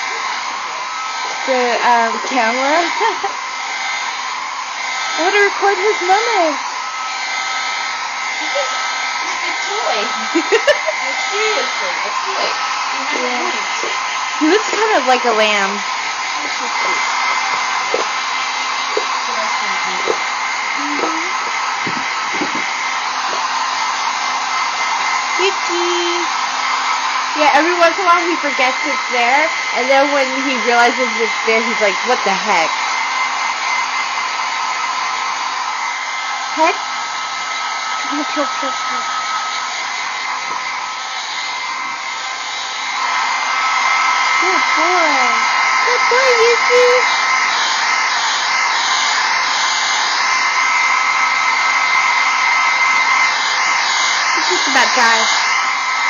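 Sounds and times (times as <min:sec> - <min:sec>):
blow dryer air hiss: 0:00.0 - 0:56.0.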